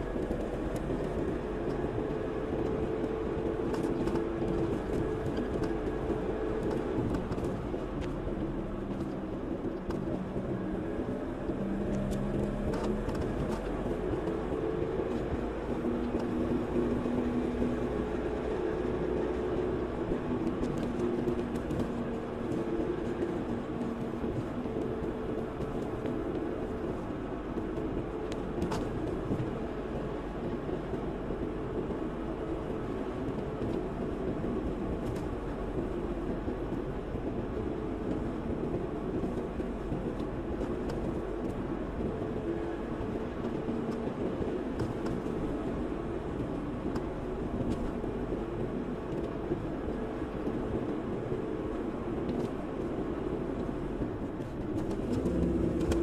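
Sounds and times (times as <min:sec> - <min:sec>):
car engine and tyre road noise: 0:00.0 - 0:56.0.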